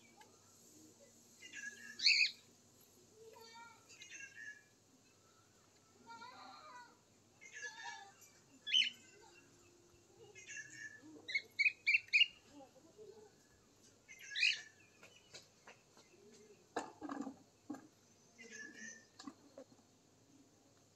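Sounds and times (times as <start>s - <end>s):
birds chirping: 0.0s - 2.5s, 3.6s - 6.1s, 7.1s - 12.5s, 13.2s - 19.8s.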